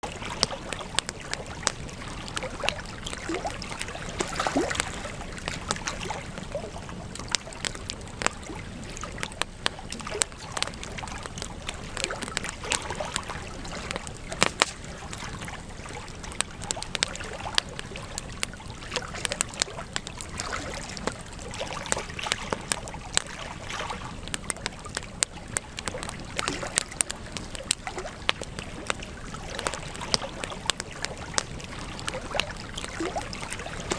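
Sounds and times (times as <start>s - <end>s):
sharp pops and snaps: 0.0s - 33.9s
wood fire crackling: 0.0s - 33.9s.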